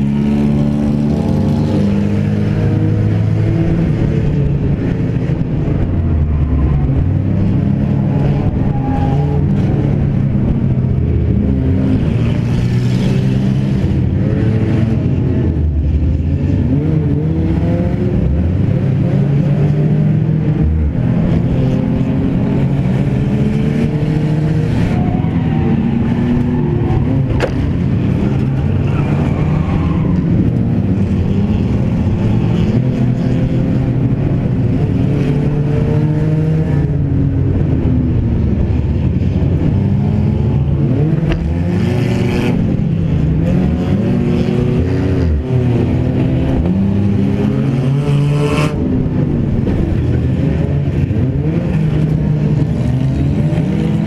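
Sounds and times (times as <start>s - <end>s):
other cars' engines: 0.0s - 54.0s.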